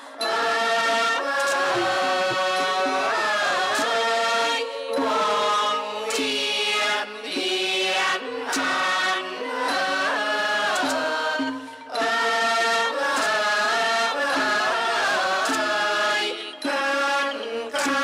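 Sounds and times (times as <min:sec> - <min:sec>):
classical singing: 0:00.0 - 0:18.0
music ensemble: 0:00.0 - 0:18.0.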